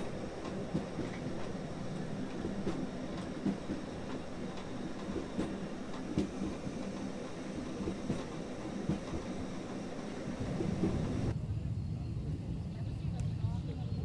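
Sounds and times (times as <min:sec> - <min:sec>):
wheels knocking on rail joints: 0:00.0 - 0:11.3
train carriage rumbling: 0:00.0 - 0:11.6.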